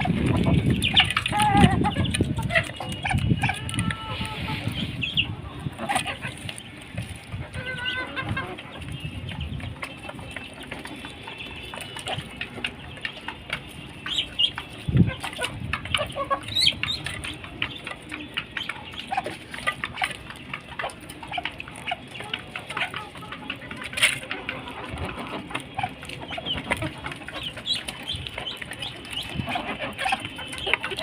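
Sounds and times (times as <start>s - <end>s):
poultry clucking: 0.0s - 31.0s.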